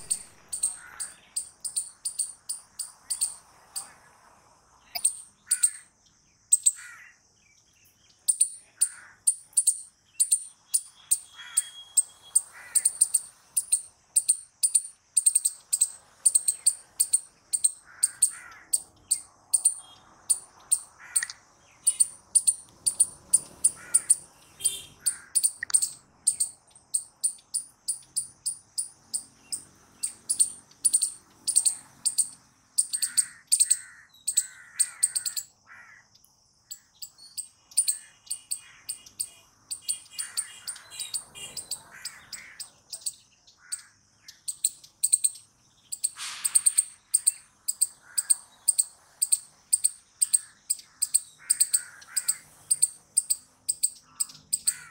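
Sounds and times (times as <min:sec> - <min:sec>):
squirrel chirping alarm call: 0:00.0 - 0:04.0, 0:04.9 - 0:54.9
faint lower bird calls: 0:00.0 - 0:04.2, 0:04.8 - 0:54.9.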